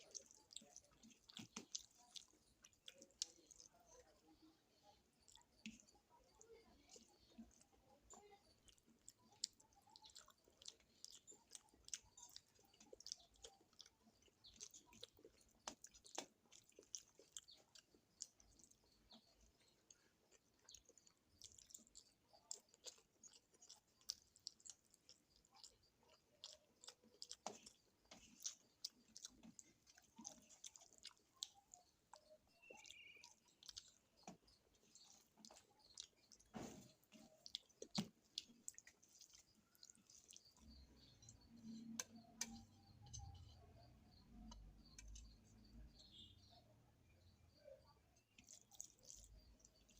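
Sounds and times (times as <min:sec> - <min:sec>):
chewing with wet mouth smacks: 0:00.0 - 0:46.6, 0:47.6 - 0:49.9.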